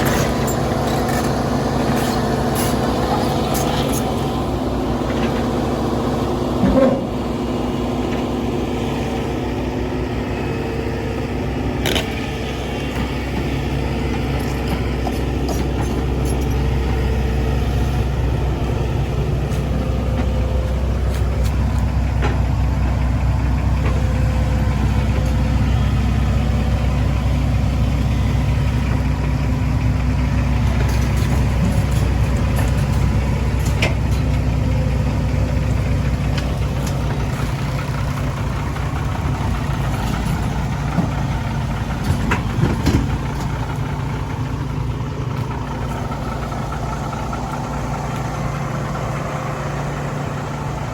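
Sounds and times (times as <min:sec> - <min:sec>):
diesel machinery running: 0:00.0 - 0:50.9.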